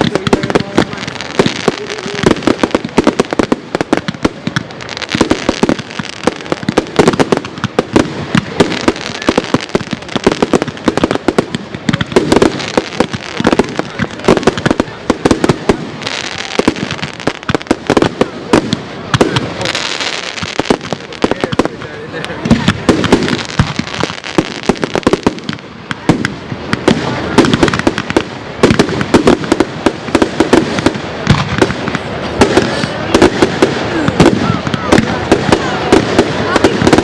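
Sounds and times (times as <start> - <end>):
fireworks bursting with bangs: 0.0 - 37.0
hissing crackle: 0.0 - 37.0.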